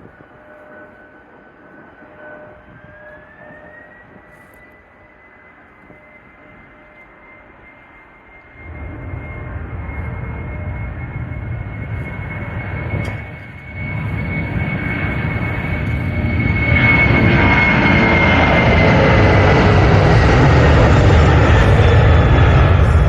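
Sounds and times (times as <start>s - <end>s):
airliner taking off: 0.0s - 23.0s.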